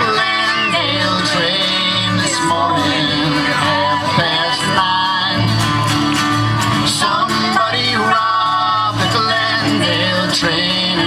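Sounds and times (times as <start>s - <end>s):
bass line: 0.0s - 11.0s
strummed acoustic guitar: 0.0s - 11.0s.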